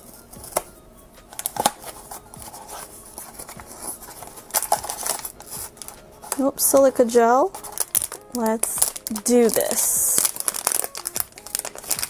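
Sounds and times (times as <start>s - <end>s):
paperboard scraping and foil crinkling: 1.3s - 12.0s.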